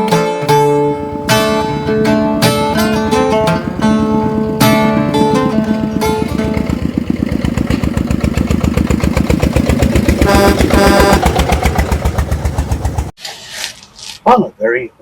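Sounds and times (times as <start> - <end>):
short pitched notes: 0.0 - 13.1
engine idling: 1.0 - 13.2.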